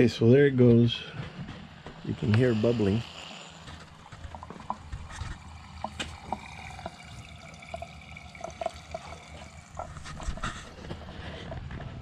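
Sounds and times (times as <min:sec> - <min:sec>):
fuel bubbling and gurgling: 0:01.7 - 0:12.0.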